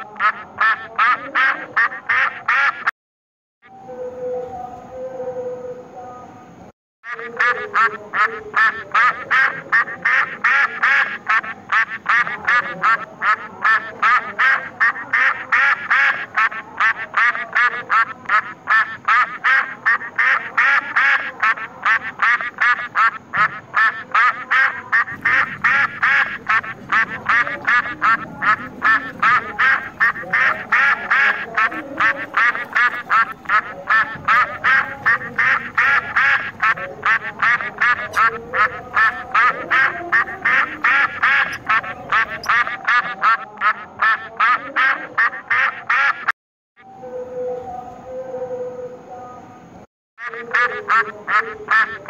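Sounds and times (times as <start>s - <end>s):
duck quacking: 0.0s - 2.9s, 7.1s - 46.3s, 50.2s - 52.0s.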